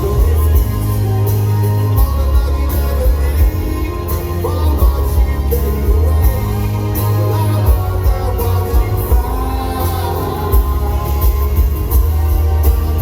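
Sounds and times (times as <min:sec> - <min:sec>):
drums with cymbal hits: 0:00.0 - 0:13.0
person singing: 0:00.0 - 0:13.0
rock band playing live: 0:00.0 - 0:13.0.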